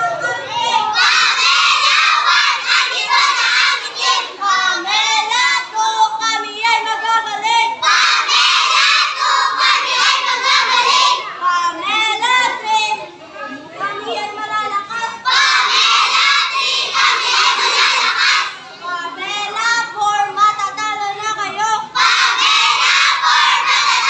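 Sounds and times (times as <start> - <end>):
girls singing together: 0.0 - 12.6, 14.8 - 24.0.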